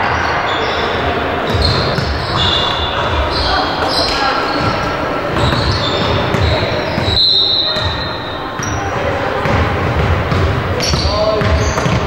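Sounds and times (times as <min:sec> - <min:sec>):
echoing voices: 0:00.0 - 0:12.0
sneakers squeaking: 0:00.0 - 0:12.0
basketball bouncing on wooden court: 0:01.5 - 0:12.0.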